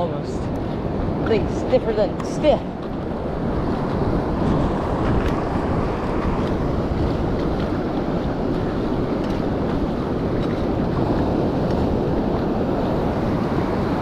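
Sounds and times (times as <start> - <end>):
ocean surf breaking: 0.0 - 14.0
wind rumbling on microphone: 0.0 - 14.0.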